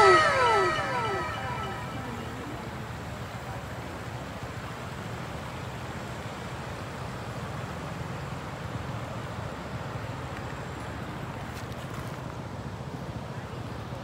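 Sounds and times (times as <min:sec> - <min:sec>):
vehicle rumble and hiss: 0:00.2 - 0:14.0.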